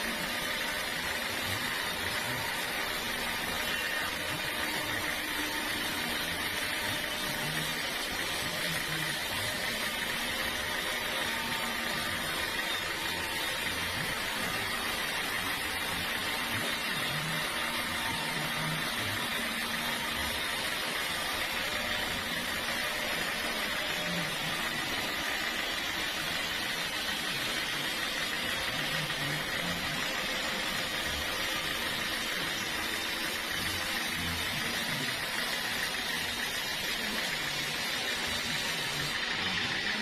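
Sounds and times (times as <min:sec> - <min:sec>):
sawmill machinery hum and hiss: 0:00.0 - 0:40.0.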